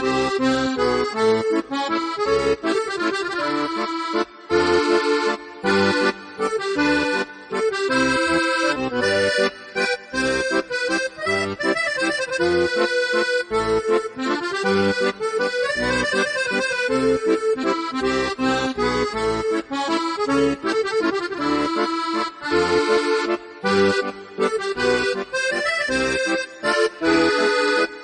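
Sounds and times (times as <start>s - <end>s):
instrumental music with pulsing bass: 0.0s - 28.0s.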